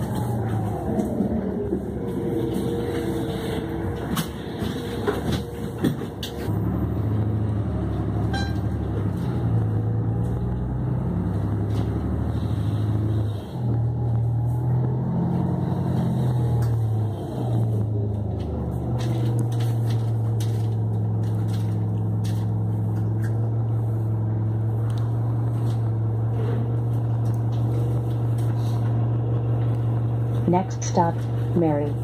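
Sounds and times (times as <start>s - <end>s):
bus engine hum: 0.0s - 32.0s.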